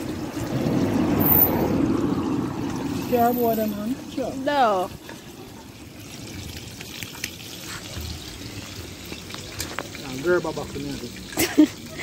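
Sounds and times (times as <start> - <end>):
fire crackling: 0.0 - 11.8
oil sizzling in a metal pan: 0.0 - 12.0.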